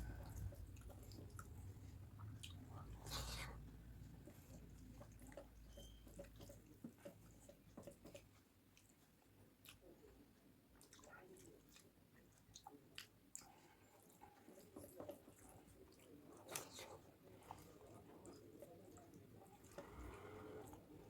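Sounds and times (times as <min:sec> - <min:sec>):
chewing with wet mouth smacks: 0:00.0 - 0:20.9.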